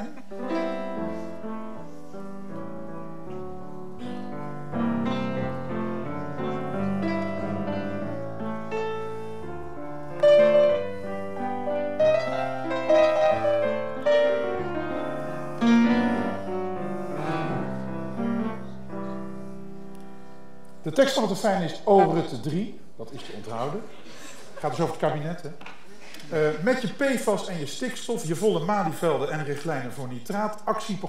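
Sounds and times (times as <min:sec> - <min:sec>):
grand piano playing: 0:00.0 - 0:25.3.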